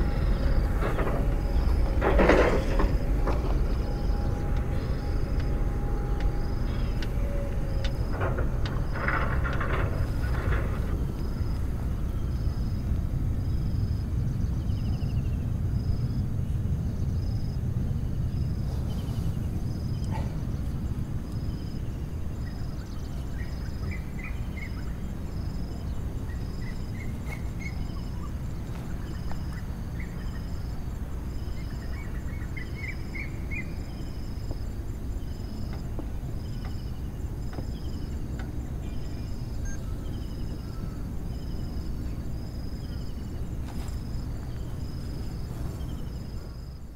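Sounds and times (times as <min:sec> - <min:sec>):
birds twittering: 0:00.0 - 0:46.7
distant jet rumble: 0:00.0 - 0:46.9
insects chirping: 0:00.0 - 0:46.9.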